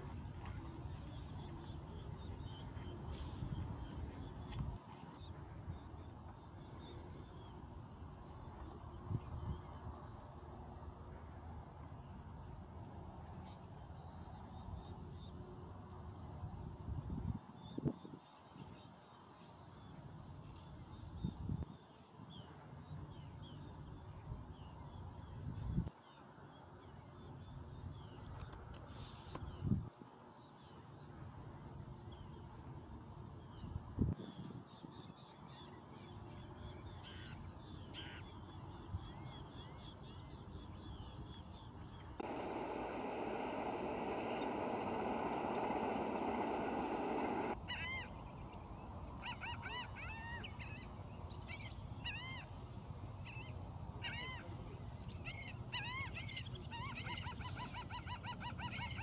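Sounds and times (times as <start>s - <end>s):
insects trilling: 0.0s - 48.2s.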